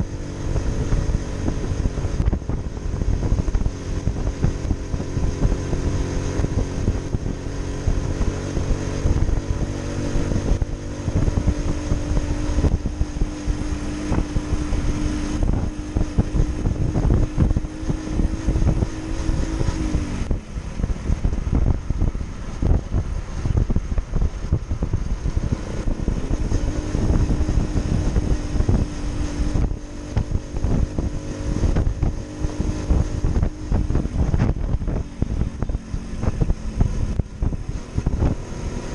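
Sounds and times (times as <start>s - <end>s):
motorcycle engine running: 0.0s - 38.9s
wind rumbling on microphone: 0.0s - 38.9s.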